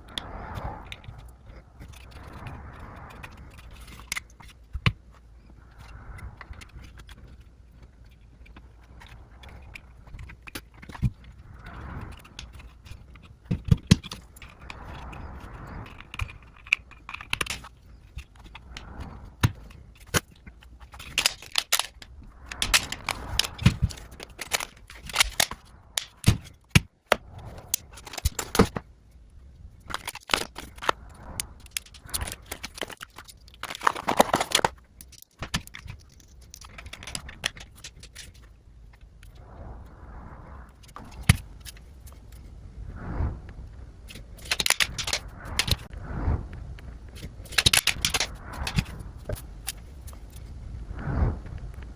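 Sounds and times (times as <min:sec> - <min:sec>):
plastic and cardboard rustling: 0:00.0 - 0:28.9, 0:29.7 - 0:39.4, 0:44.1 - 0:45.9, 0:47.0 - 0:50.5
plastic and metal parts clicking: 0:00.1 - 0:28.8, 0:29.8 - 0:38.5, 0:44.1 - 0:45.9, 0:47.1 - 0:50.4.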